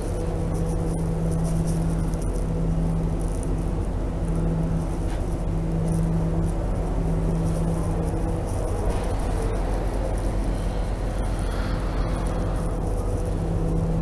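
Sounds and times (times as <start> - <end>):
train drone inside coach: 0.0 - 14.0.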